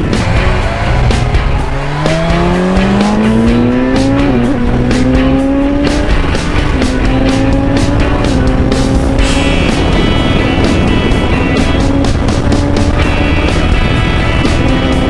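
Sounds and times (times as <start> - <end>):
background music with beat: 0.0 - 15.0
motorcycle engine accelerating: 0.0 - 15.0.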